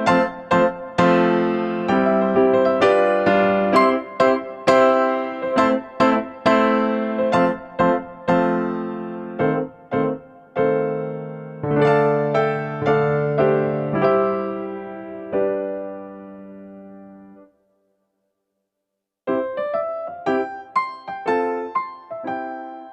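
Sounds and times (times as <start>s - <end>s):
gentle piano melody: 0.0s - 17.6s, 19.3s - 22.9s.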